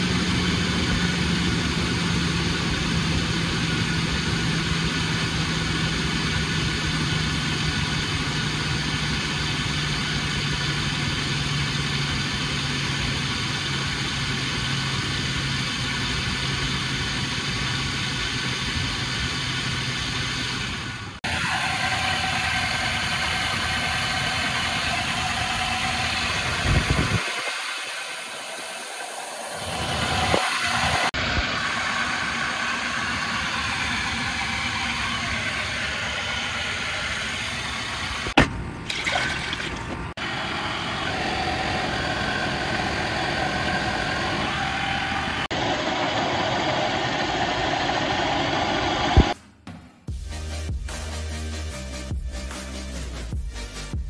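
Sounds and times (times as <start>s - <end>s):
car engine starting and running: 0.0s - 49.4s.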